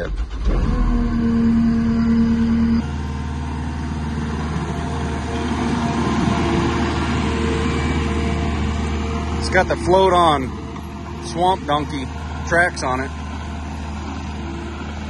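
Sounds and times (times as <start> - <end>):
diesel engine starting and running: 0.0 - 15.0
steady tone: 0.3 - 15.0.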